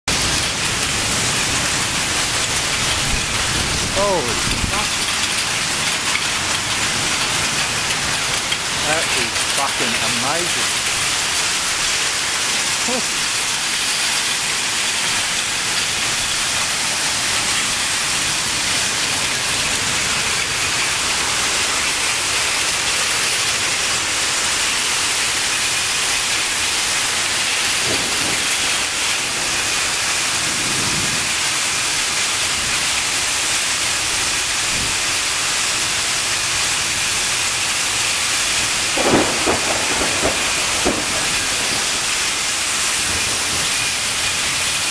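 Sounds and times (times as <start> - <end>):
torrential rain and wind: 0.0 - 44.9.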